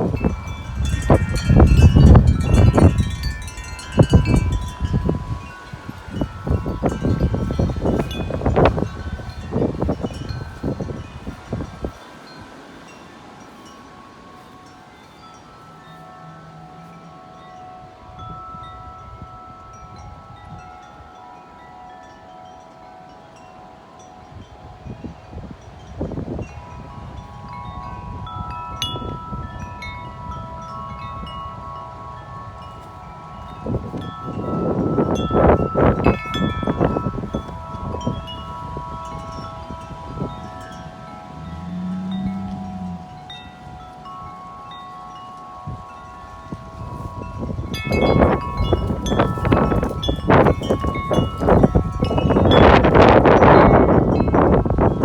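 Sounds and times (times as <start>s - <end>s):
wind buffeting microphone: 0.0s - 22.6s, 23.4s - 55.0s
tubular wind chimes ringing: 0.0s - 55.0s.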